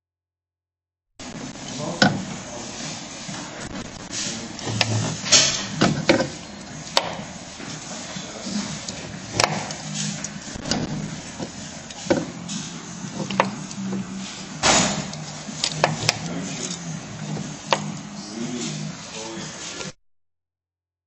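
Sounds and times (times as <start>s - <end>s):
steady low hum: 1.2s - 20.0s.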